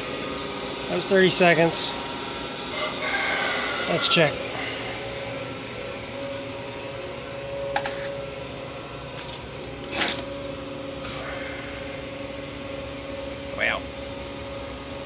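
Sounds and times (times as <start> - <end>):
shop machinery hum: 0.0 - 15.0.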